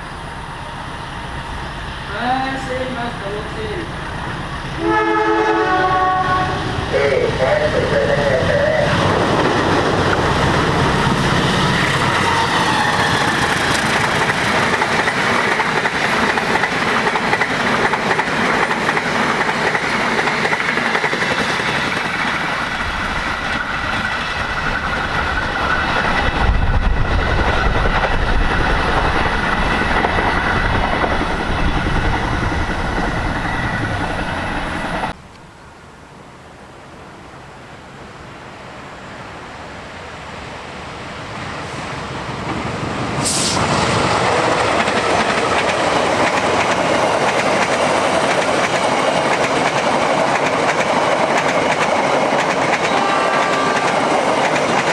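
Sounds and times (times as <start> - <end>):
train wheels on rails: 0.0 - 35.4, 38.5 - 54.9.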